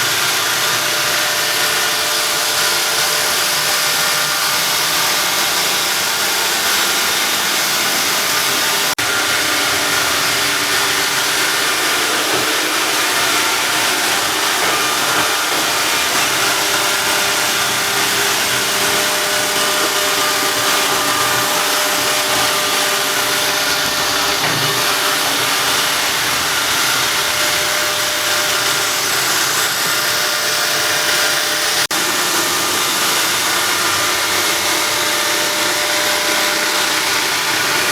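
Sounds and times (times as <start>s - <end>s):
robot vacuum cleaner whirring: 0.0s - 37.9s.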